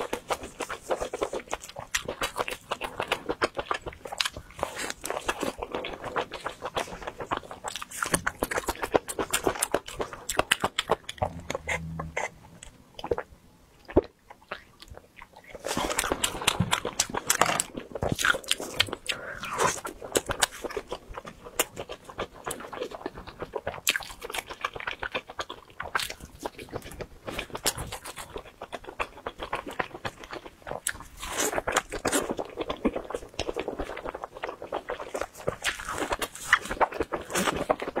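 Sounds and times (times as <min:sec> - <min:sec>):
close chewing and biting: 0:00.0 - 0:38.0.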